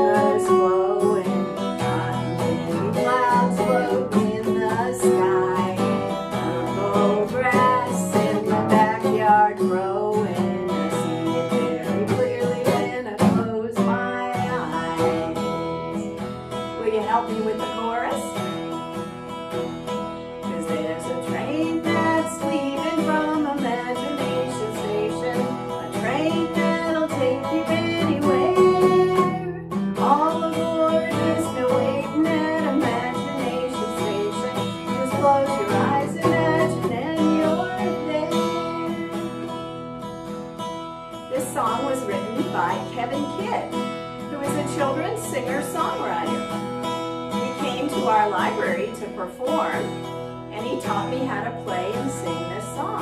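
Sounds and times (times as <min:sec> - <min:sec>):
woman singing: 0:00.0 - 0:18.9, 0:20.4 - 0:40.4, 0:41.2 - 0:53.0
acoustic guitar strumming: 0:00.0 - 0:53.0.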